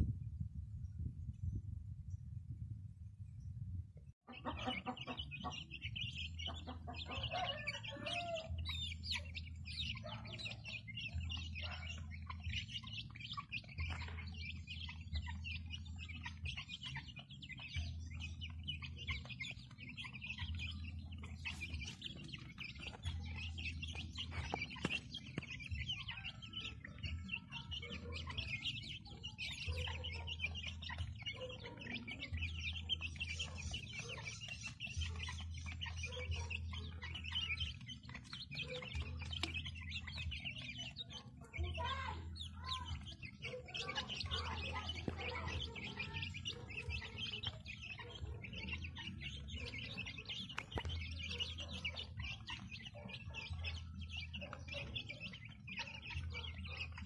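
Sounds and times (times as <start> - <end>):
chicks peeping: 4.2 - 57.0.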